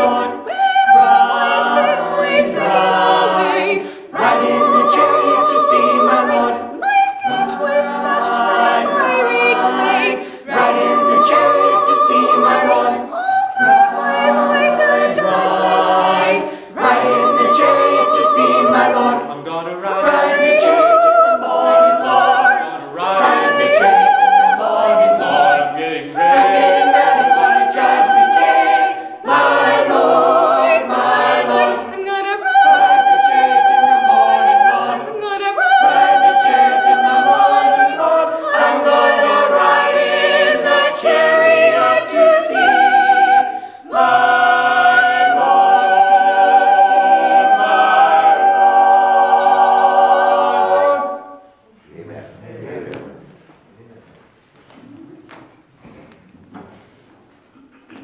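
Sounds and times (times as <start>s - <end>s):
choir singing a hymn: 0.0s - 53.5s.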